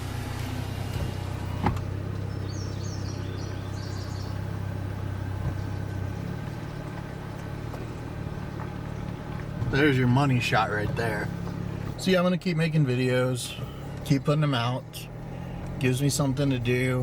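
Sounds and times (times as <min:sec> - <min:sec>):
vehicle engine drone: 0:00.0 - 0:17.0
birds chirping: 0:00.3 - 0:17.0.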